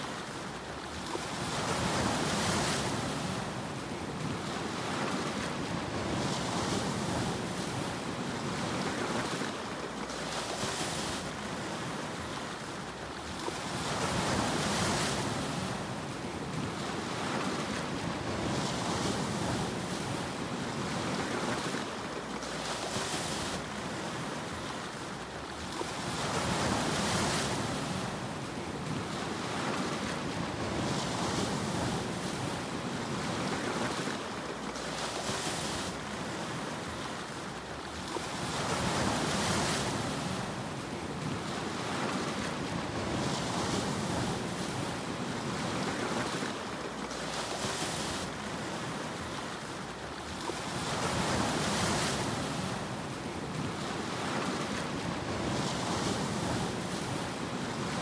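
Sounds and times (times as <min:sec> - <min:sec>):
ocean surf breaking on rocks: 0:00.0 - 0:58.0.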